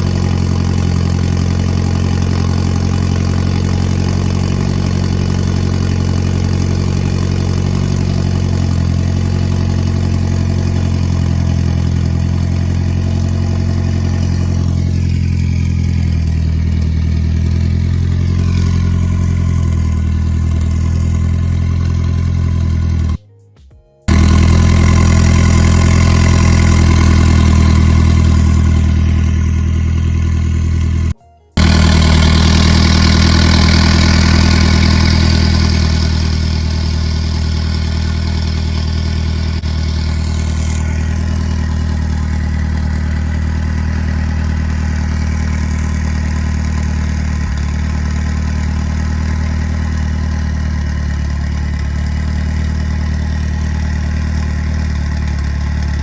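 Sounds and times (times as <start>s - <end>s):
car engine idling: 0.0s - 23.2s, 24.1s - 56.0s.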